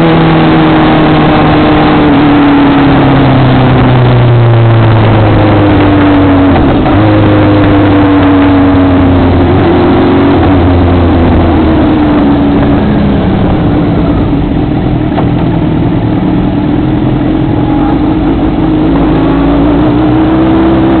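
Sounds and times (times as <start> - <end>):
vehicle engine slowing: 0.0 - 21.0
wind and road noise: 0.0 - 21.0.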